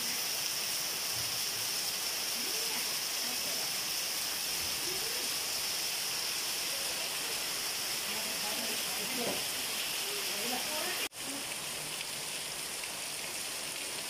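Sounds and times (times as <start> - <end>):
heavy rain on foliage: 0.0 - 14.0.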